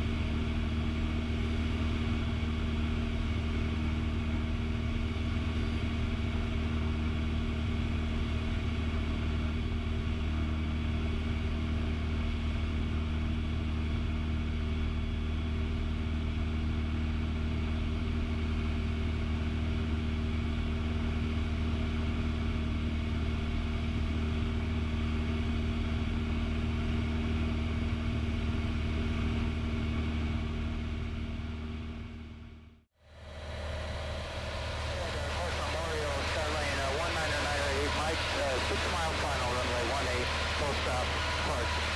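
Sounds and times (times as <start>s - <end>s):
airplane engine and propeller drone: 0.0s - 41.9s.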